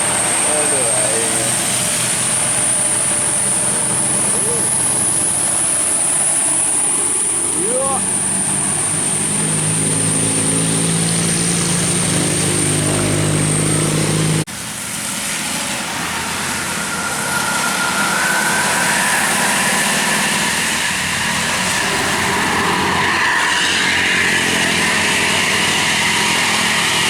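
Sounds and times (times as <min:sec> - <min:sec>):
engine whine rising in pitch: 0:00.0 - 0:27.0
large vehicle engine running: 0:00.0 - 0:27.0
road vehicle noise: 0:00.0 - 0:27.0.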